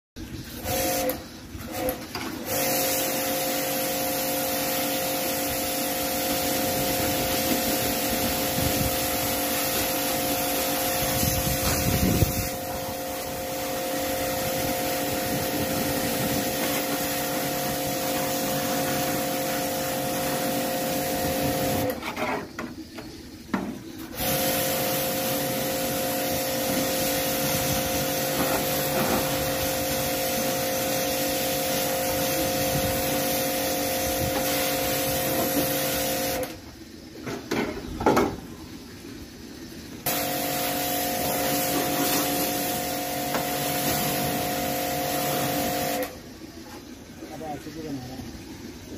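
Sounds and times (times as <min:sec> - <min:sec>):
pump motor humming: 0:00.2 - 0:48.9
spray gun hissing water jet: 0:00.5 - 0:22.0, 0:24.2 - 0:36.5, 0:40.0 - 0:46.2.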